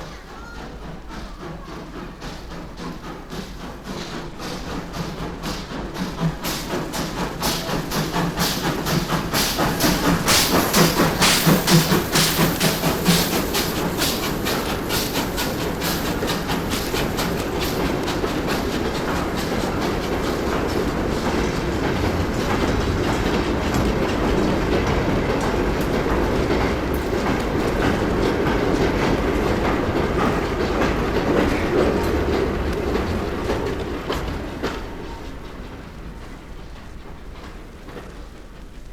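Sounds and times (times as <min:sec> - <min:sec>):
train rumble: 0:00.0 - 0:38.9
train wheels clicking over rails: 0:00.0 - 0:38.9.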